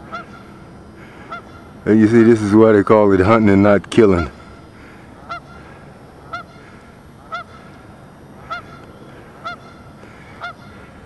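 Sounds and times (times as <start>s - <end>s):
goose honking: 0.0s - 3.4s, 4.0s - 7.8s, 8.4s - 11.0s.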